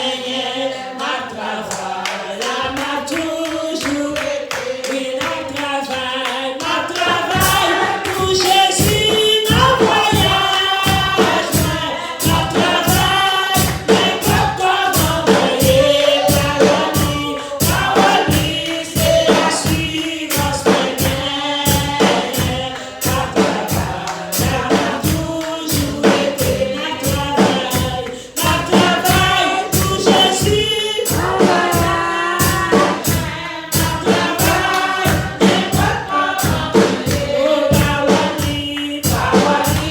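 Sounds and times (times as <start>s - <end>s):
congregation singing gospel song: 0.0s - 39.9s
steady percussive beat: 6.6s - 39.9s.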